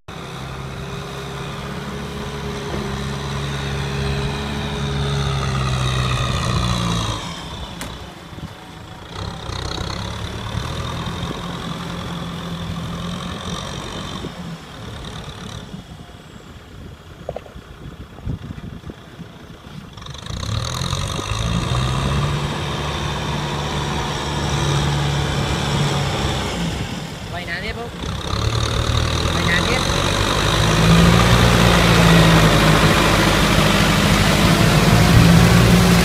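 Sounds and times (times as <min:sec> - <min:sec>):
tractor diesel engine labouring: 0:00.0 - 0:36.0.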